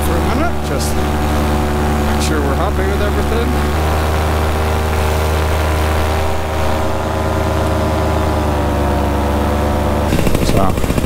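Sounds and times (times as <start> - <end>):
paramotor engine and propeller: 0.0 - 11.0.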